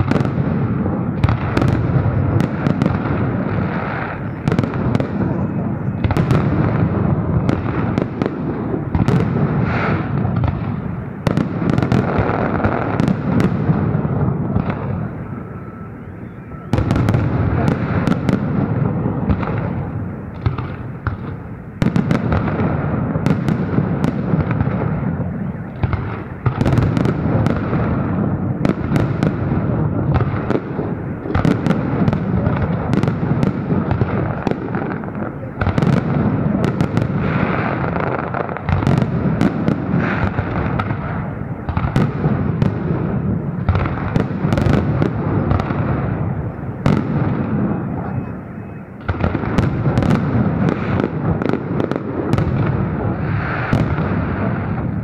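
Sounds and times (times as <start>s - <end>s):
fireworks bangs: 0.0s - 55.0s
fireworks rumble and crackle: 0.0s - 55.0s.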